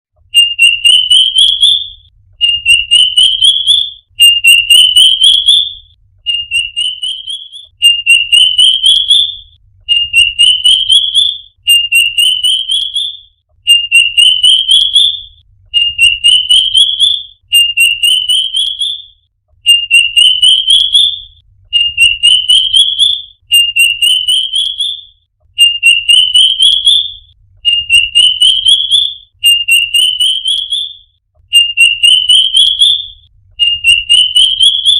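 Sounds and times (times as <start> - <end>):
bird singing rising trill: 0.3 - 34.9.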